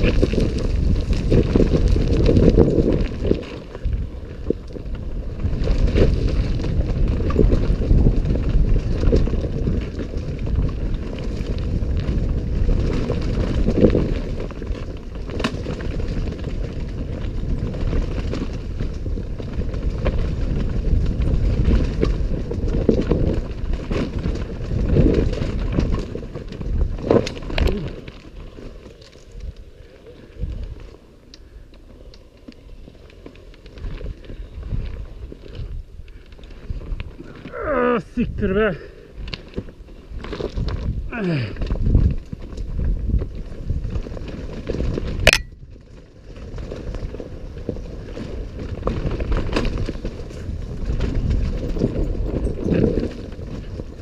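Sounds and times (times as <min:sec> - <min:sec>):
wind buffeting microphone: 0:00.0 - 0:30.9, 0:33.6 - 0:54.0
bike knocking over rough ground: 0:00.0 - 0:31.1, 0:31.7 - 0:54.0.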